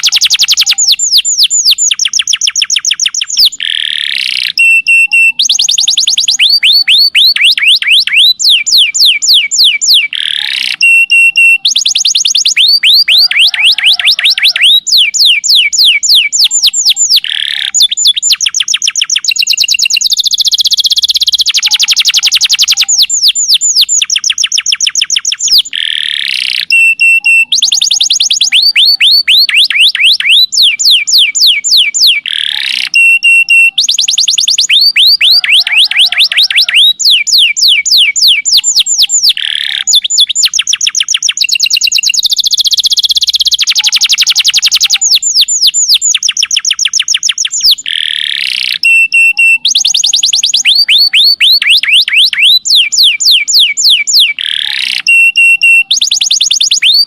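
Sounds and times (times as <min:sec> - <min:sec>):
canary song: 0:00.0 - 0:57.0.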